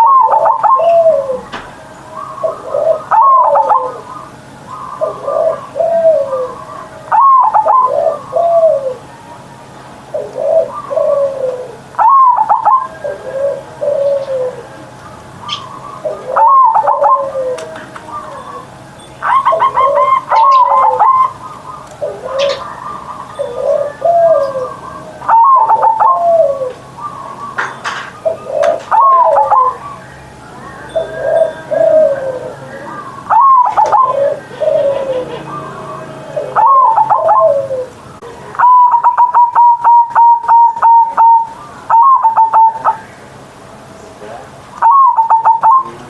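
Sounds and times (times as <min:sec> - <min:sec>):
dove cooing: 0:00.0 - 0:43.2, 0:44.8 - 0:46.0.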